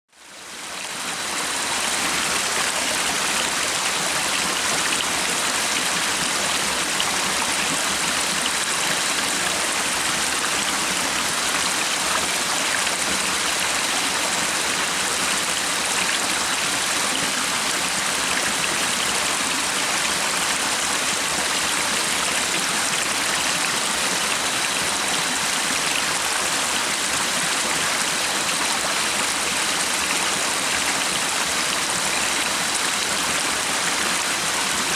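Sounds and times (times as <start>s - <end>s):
stream of running water: 0.1s - 34.9s.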